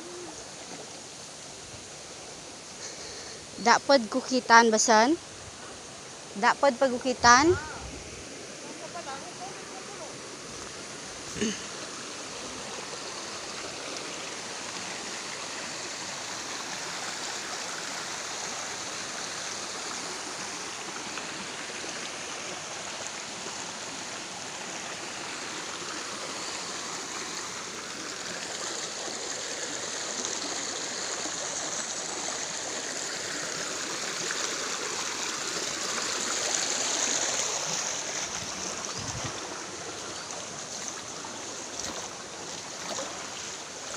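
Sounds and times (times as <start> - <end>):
stream rushing over stones: 0.0 - 43.9.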